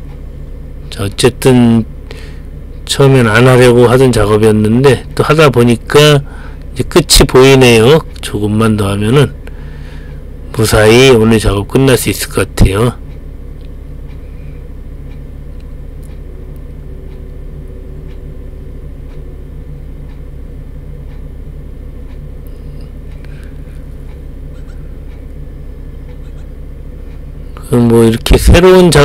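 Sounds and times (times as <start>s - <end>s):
forklift engine running: 0.0s - 29.0s.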